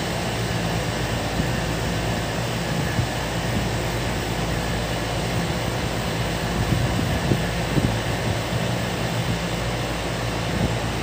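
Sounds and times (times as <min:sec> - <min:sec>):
compressor humming: 0:00.0 - 0:11.0
condenser fan rushing: 0:00.0 - 0:11.0.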